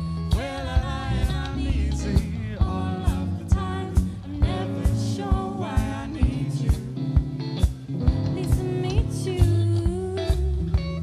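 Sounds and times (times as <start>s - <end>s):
drum kit beat: 0.0s - 11.0s
electric bass guitar: 0.0s - 11.0s
jazz band playing: 0.0s - 11.0s
woman singing: 0.3s - 7.3s, 8.1s - 11.0s.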